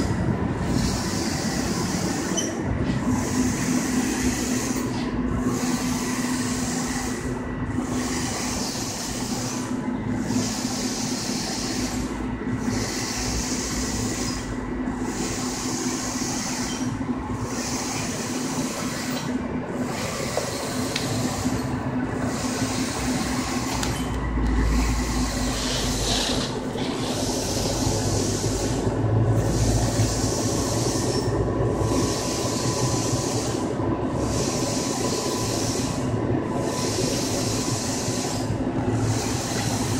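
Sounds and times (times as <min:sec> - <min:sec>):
printer carriage sweeping with hiss: 0:00.0 - 0:39.9
printer steady hum: 0:00.0 - 0:39.9.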